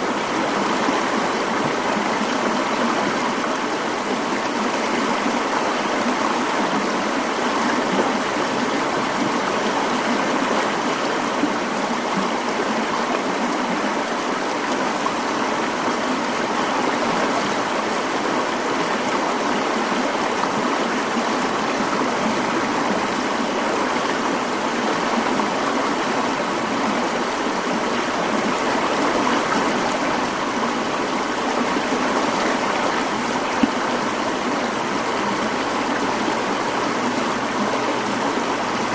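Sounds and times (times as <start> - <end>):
stream rushing water: 0.0 - 38.9.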